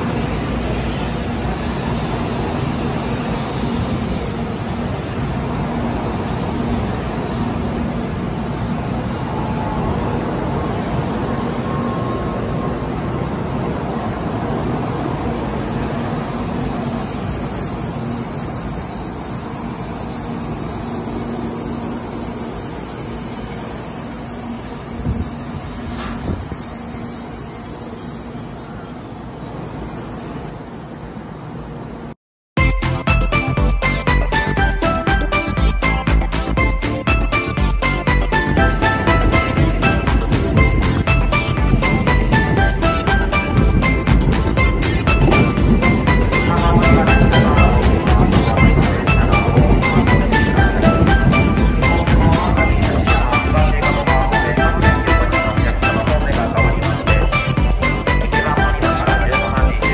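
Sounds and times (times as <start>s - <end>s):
train wheels on rail: 0.0s - 32.2s, 34.1s - 59.9s.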